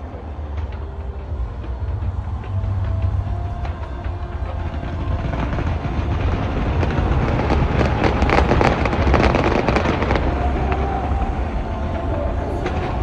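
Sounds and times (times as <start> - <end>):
fireworks crackling: 0.0 - 13.0
fireworks rumble: 0.0 - 13.0.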